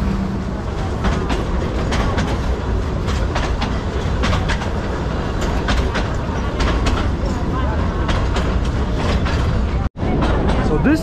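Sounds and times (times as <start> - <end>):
steam train rumbling: 0.0 - 11.0
wheels clattering on track: 0.0 - 11.0.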